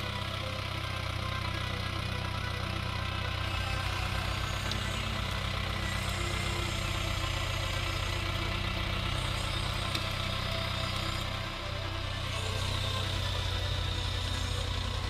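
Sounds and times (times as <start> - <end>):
diesel engine low throb: 0.0 - 15.0.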